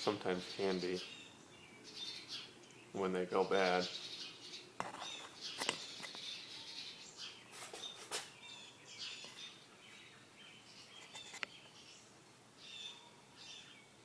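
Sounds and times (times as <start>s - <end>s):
faint bird chirps: 0.3s - 14.0s.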